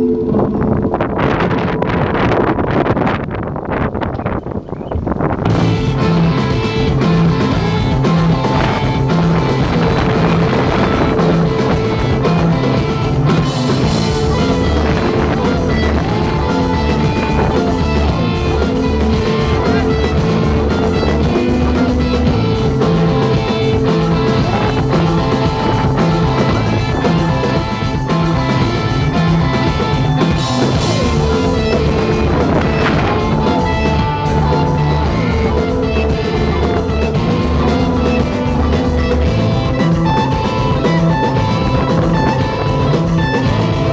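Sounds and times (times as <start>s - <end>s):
electric guitar gliding notes: 0.0s - 43.9s
rock band playing live: 5.4s - 43.9s.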